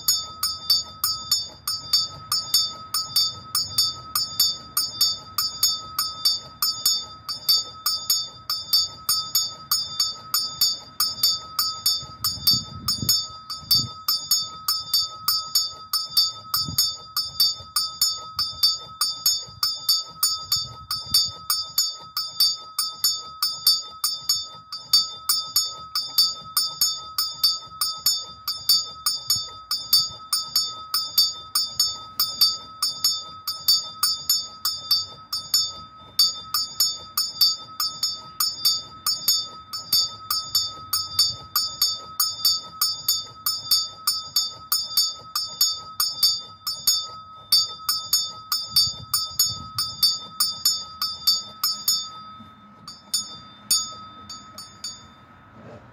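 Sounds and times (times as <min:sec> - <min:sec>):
small bell ringing: 0:00.0 - 0:55.6.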